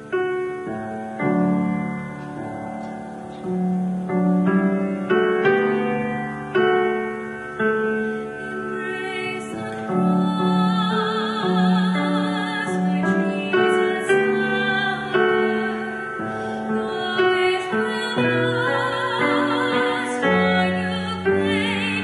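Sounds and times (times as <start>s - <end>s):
slow piano chords: 0.0s - 22.0s.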